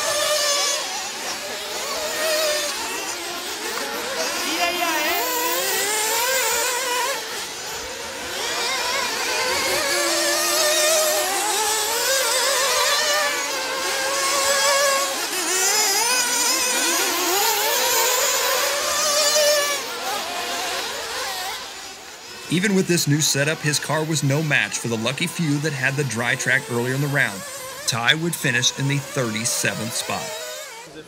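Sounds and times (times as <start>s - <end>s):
rc car engines revving: 0.0s - 31.0s.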